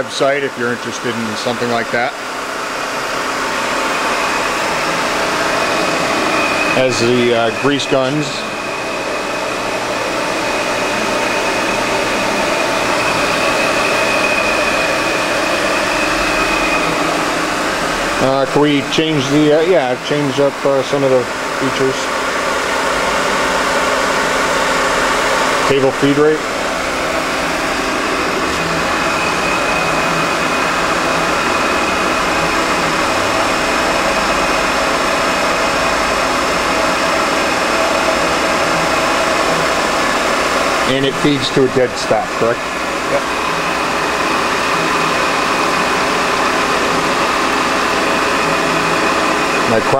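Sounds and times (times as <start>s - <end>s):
grinder humming with high whine: 0.0s - 49.9s.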